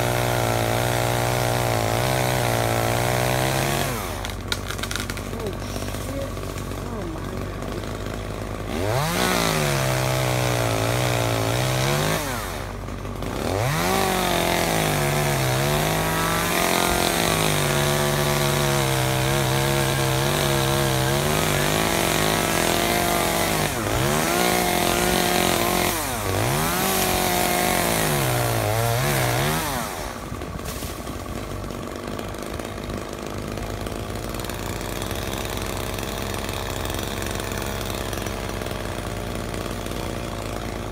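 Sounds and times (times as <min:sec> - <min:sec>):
chainsaw cutting wood: 0:00.0 - 0:40.9
chainsaw idling: 0:00.0 - 0:40.9.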